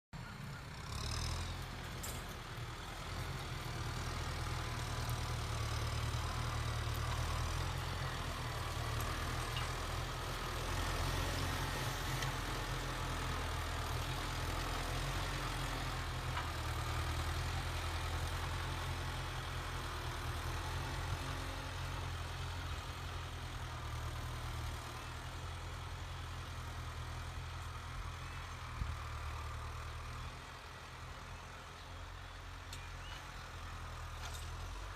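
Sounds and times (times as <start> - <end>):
tractor diesel engine humming: 0.2 - 34.9.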